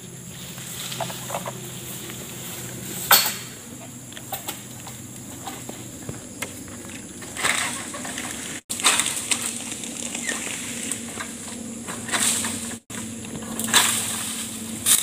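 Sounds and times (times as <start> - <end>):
sickle scraping palm fronds: 0.0 - 15.0
steady low hum: 0.0 - 15.0.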